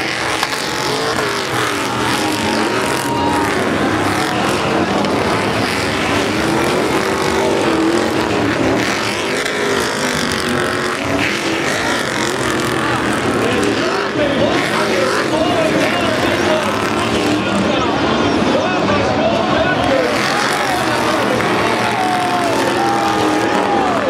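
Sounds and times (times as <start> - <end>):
truck engines racing past: 0.0 - 24.0.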